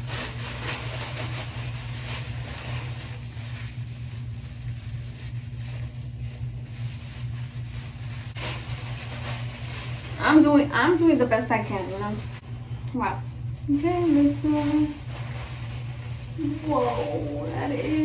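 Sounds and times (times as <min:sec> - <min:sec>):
plastic bag rustling: 0:00.0 - 0:18.0.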